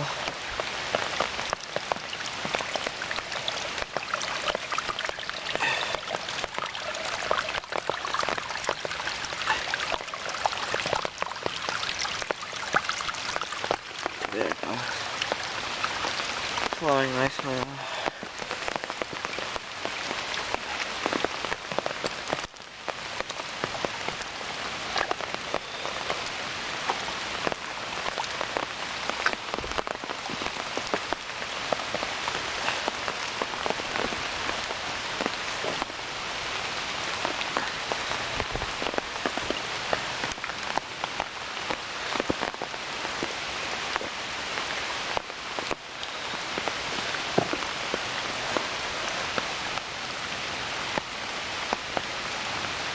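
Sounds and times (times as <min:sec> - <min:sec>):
heavy rain falling: 0:00.0 - 0:52.9
stream water flowing: 0:00.0 - 0:52.9.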